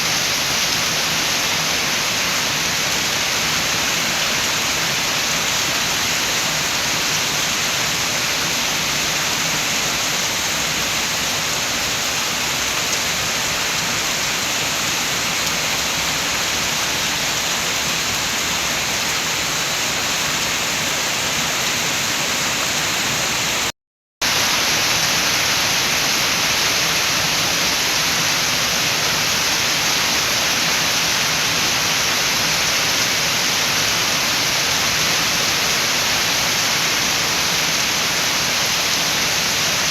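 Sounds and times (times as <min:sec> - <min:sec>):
rain and wind hissing: 0:00.0 - 0:39.9.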